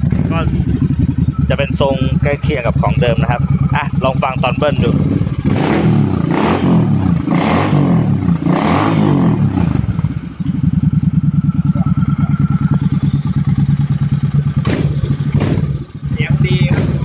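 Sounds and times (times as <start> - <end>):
motorcycle engine revving and idling: 0.0 - 17.0.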